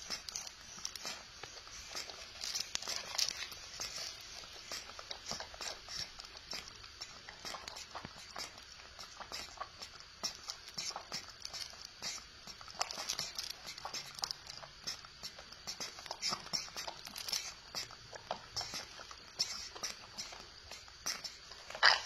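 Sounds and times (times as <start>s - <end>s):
monkeys sucking and lip-smacking: 0.0s - 22.0s.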